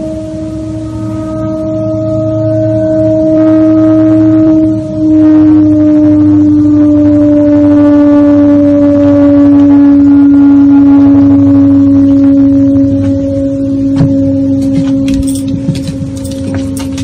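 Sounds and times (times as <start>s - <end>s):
low horn-like drone: 0.0s - 17.0s.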